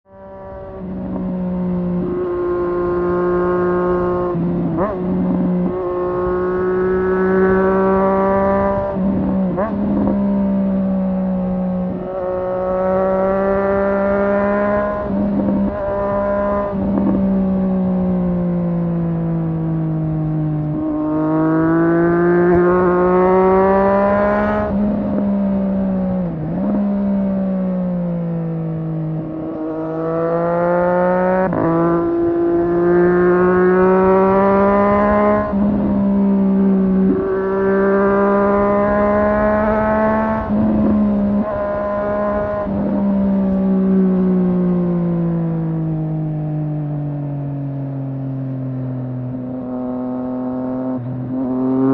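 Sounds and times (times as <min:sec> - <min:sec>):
motorcycle engine revving through gears: 0:00.0 - 0:51.9.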